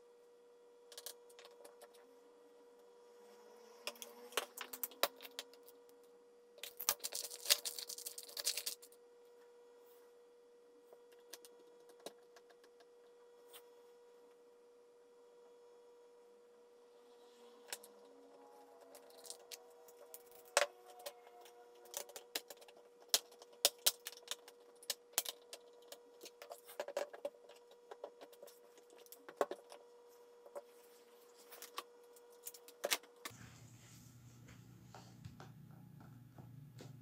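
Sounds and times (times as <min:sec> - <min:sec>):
faint hum-like tone: 0:00.0 - 0:06.8, 0:08.4 - 0:37.0.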